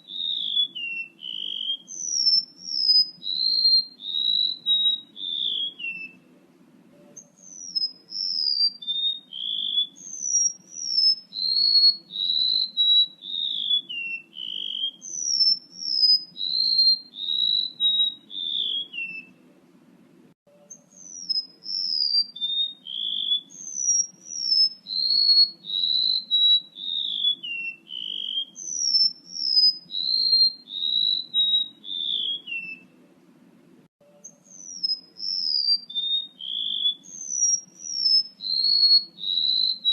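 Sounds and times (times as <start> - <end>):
bird whistling downward notes: 0.0 - 6.3, 7.0 - 19.4, 20.6 - 33.0, 34.1 - 39.9.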